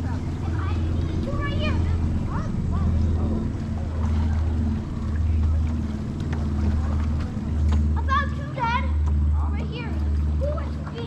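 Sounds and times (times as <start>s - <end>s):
small boat motor humming: 0.0s - 11.0s.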